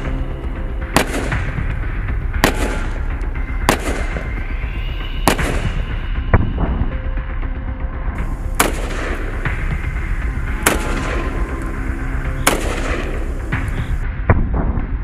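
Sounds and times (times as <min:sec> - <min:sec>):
steady low rumble: 0:00.0 - 0:15.0
gunshots: 0:00.8 - 0:04.5, 0:05.2 - 0:06.9, 0:08.2 - 0:15.0.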